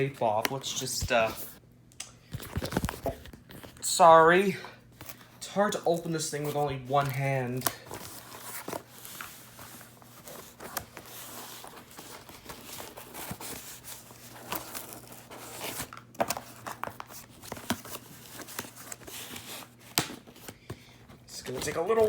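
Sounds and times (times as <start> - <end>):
cardboard crinkling and rustling: 2.4 - 3.9, 5.9 - 22.0.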